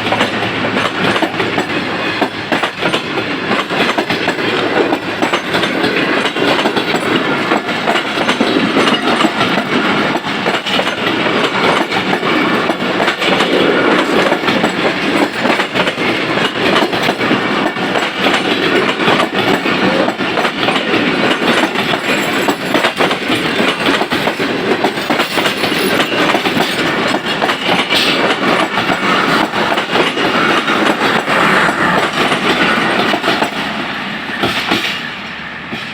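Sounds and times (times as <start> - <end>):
wheels clattering over rail joints: 0.0 - 33.7
train rumbling past: 0.0 - 35.9.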